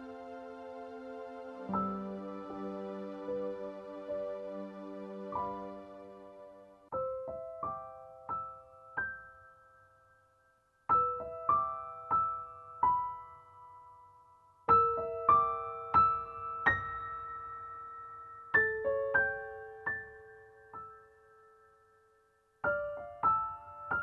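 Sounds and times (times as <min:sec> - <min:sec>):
gentle electric piano melody: 0:00.0 - 0:09.9, 0:10.9 - 0:24.0.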